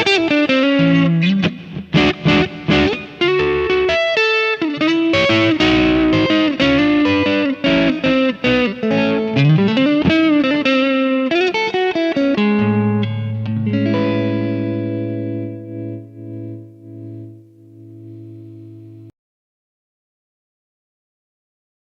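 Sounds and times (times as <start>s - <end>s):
electric guitar blues lead: 0.0s - 19.1s
electric guitar chord ringing: 0.0s - 19.1s.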